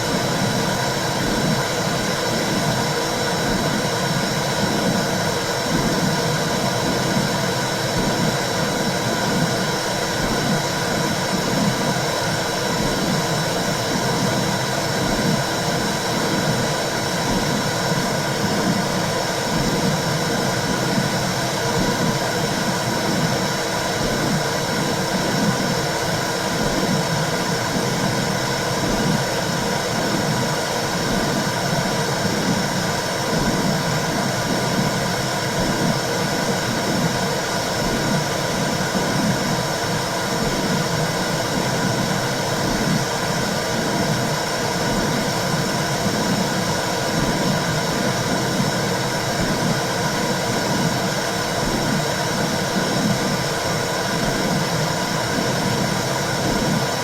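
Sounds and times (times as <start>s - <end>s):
soft pulsing heartbeat: 0.0s - 57.0s.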